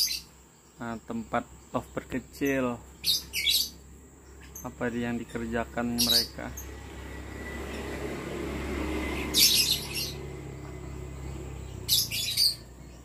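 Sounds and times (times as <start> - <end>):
lovebirds chattering: 0.0 - 8.0, 9.0 - 13.0.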